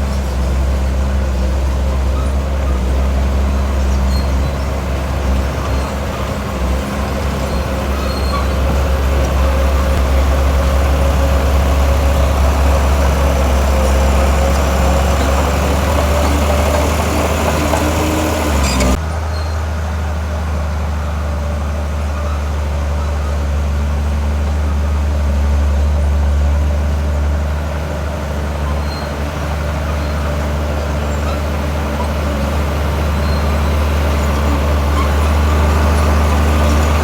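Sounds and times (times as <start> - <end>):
diesel earthmoving machinery running: 0.0 - 37.0.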